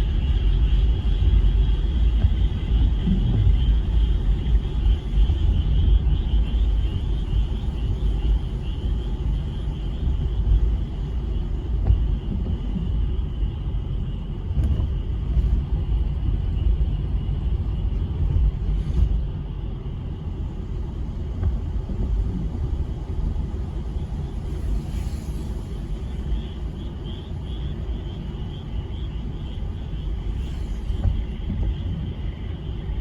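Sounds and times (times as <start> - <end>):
uneven low rumble: 0.0 - 33.0.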